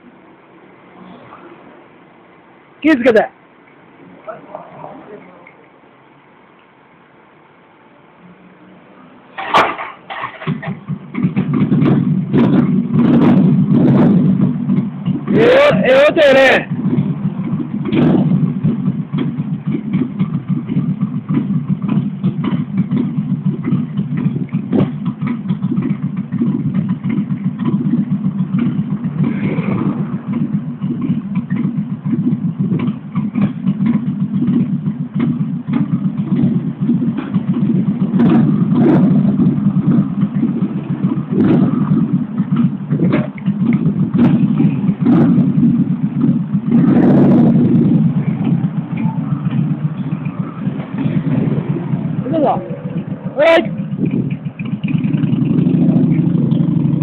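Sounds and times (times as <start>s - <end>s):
motorcycle engine idling and revving: 0.0s - 6.3s, 7.0s - 57.0s.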